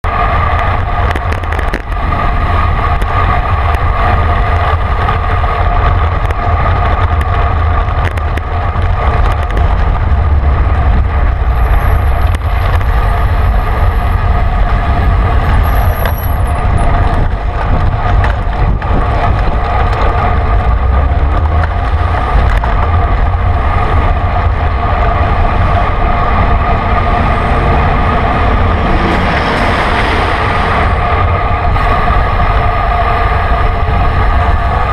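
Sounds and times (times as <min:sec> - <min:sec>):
passing vehicles: 0:00.0 - 0:34.9
road noise: 0:00.0 - 0:34.9
wind rumble on camera: 0:00.0 - 0:34.9.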